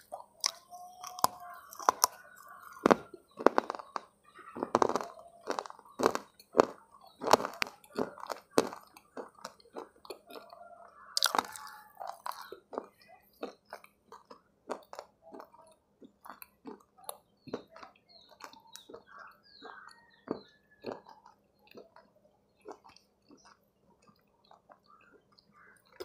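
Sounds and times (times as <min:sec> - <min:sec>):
mouth clicks: 0:00.0 - 0:26.0
person chewing crunchy bar: 0:00.0 - 0:26.0.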